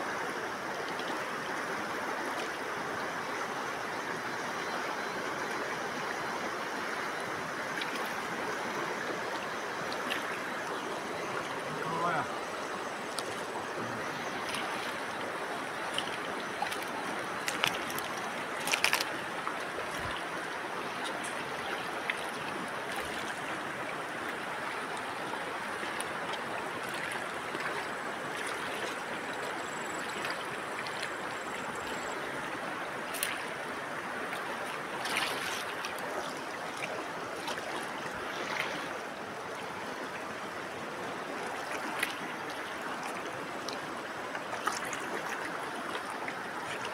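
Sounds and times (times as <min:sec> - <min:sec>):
river current rushing: 0:00.0 - 0:46.9.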